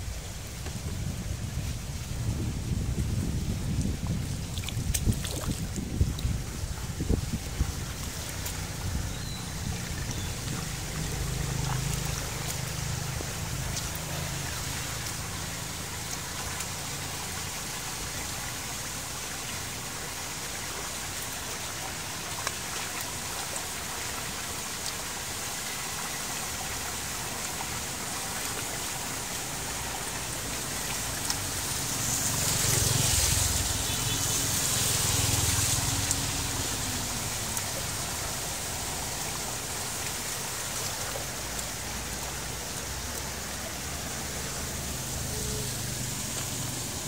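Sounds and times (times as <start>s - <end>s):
rainwater trickling into drain: 0.0s - 47.0s.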